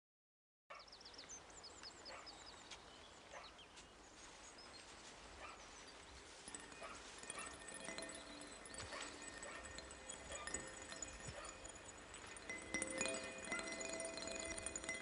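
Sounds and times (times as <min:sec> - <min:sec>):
bird chirping: 0:00.7 - 0:15.0.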